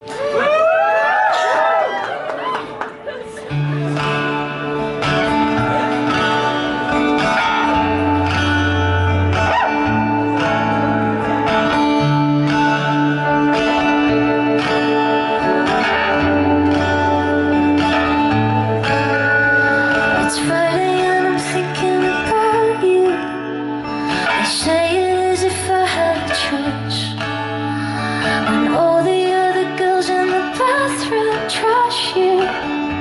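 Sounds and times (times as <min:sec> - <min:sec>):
plucked guitar: 0:02.6 - 0:33.0.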